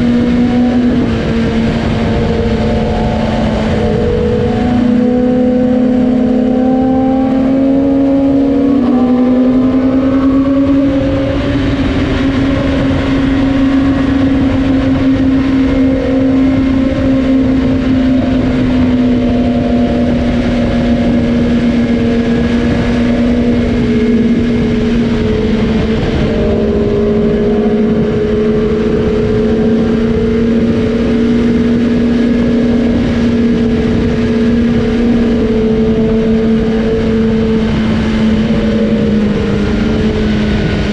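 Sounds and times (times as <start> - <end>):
motorcycle engine cruising: 0.0 - 40.9
wind and road rush: 0.0 - 40.9.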